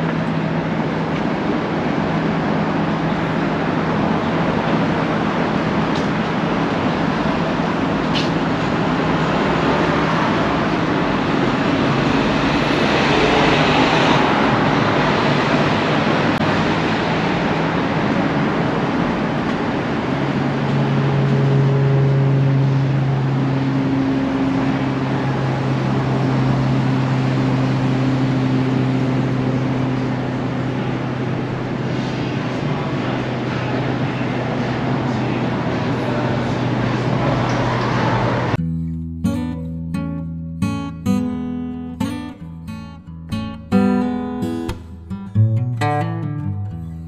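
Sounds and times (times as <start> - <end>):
passing vehicles: 0.0 - 38.8
engine low drone: 0.0 - 47.0.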